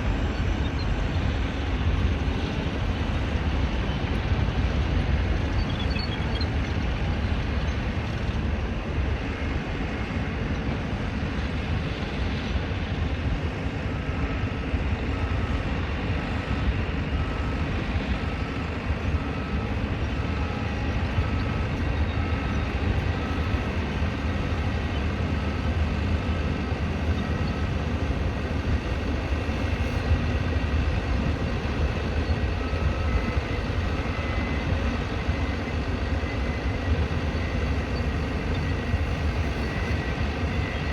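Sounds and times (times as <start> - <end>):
heavy traffic rumble: 6.5 - 40.9.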